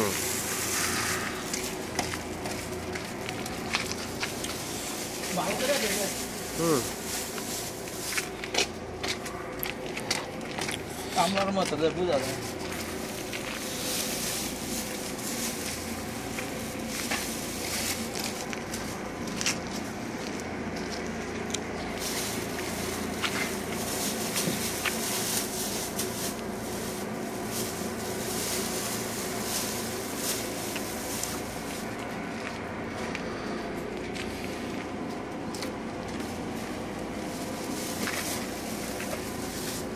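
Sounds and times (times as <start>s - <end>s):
plastic crinkling and rustling: 0.0s - 33.2s, 33.9s - 39.9s
steady mechanical hum: 0.0s - 39.9s.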